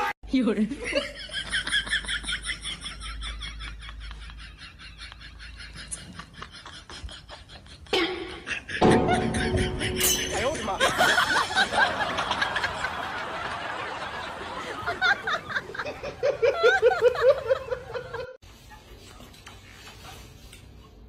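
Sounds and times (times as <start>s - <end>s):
people laughing: 0.7s - 18.4s.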